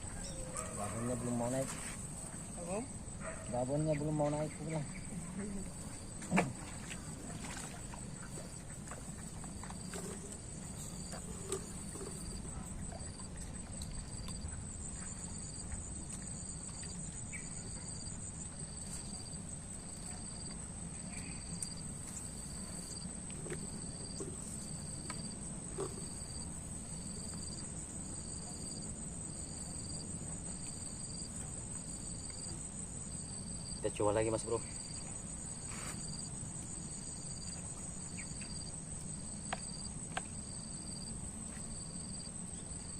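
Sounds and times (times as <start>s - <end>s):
insect chirping in pulses: 0.0s - 42.9s.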